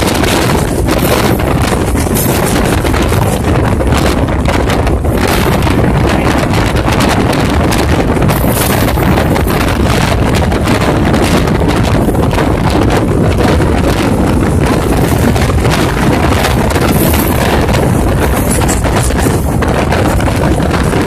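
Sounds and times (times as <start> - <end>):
train passing close: 0.0 - 21.0
train running at speed: 0.0 - 21.0
wind buffeting microphone: 0.0 - 21.0.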